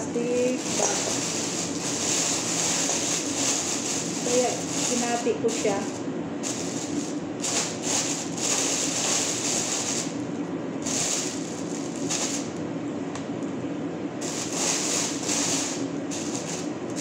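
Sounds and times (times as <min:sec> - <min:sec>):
plastic bag crinkling: 0:00.0 - 0:10.2, 0:10.8 - 0:12.5, 0:14.2 - 0:16.7
steady low hum: 0:00.0 - 0:17.0.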